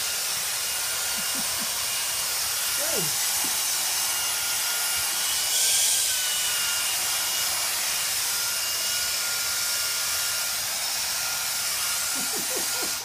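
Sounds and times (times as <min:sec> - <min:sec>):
handheld vacuum cleaner whining: 0:00.0 - 0:13.0.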